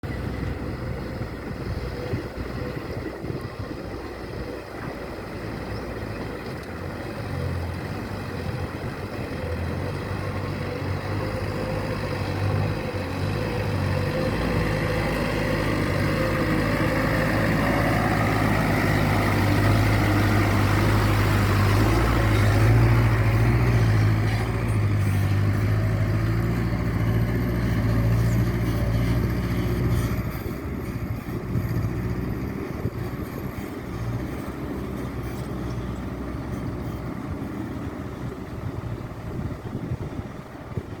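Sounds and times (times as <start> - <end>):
truck engine droning: 0.0 - 41.0.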